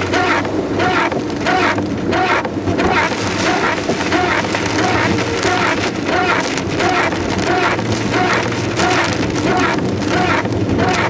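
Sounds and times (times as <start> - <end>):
car engine humming: 0.0 - 11.0
heavy rain on car roof: 0.0 - 11.0
windshield wipers swishing: 0.0 - 11.0.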